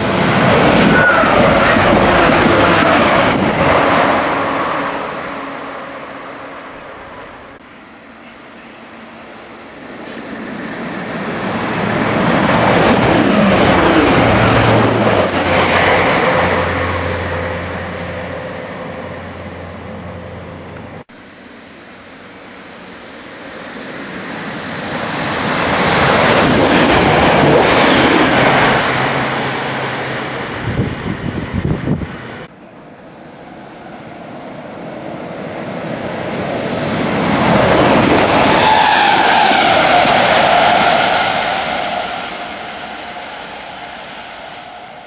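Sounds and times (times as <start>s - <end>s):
trains rushing past: 0.0s - 45.0s.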